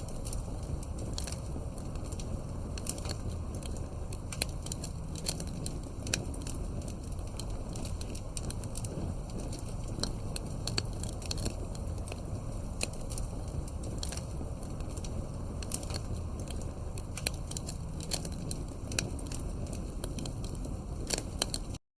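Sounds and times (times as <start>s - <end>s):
campfire wood crackling: 0.0s - 21.8s
low rumble of fire: 0.0s - 21.8s
sharp pops and snaps: 0.0s - 21.8s.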